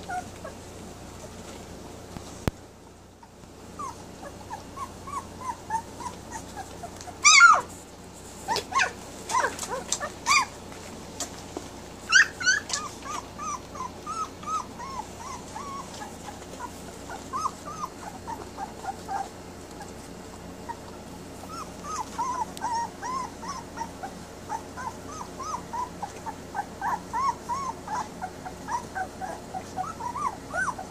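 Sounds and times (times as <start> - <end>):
puppies yelping: 0.0 - 0.7, 3.1 - 7.8, 8.4 - 10.8, 12.0 - 30.9
puppies whimpering and squeaking: 0.0 - 2.0, 2.8 - 30.9.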